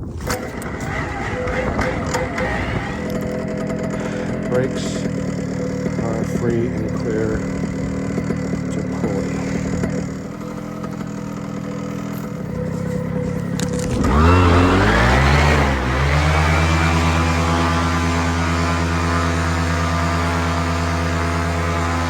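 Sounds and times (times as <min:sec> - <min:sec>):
two-stroke engine revving: 0:00.0 - 0:22.0.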